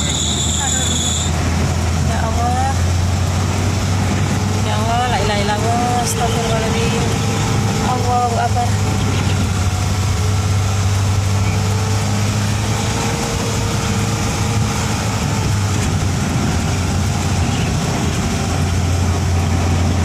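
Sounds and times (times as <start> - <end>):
vehicle engine humming: 0.0 - 20.0
wind noise: 0.0 - 20.0.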